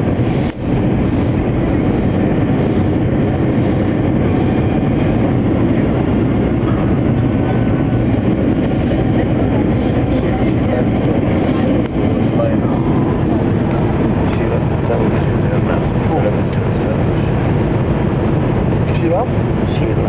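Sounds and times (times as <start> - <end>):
airplane cabin roar: 0.0 - 20.0.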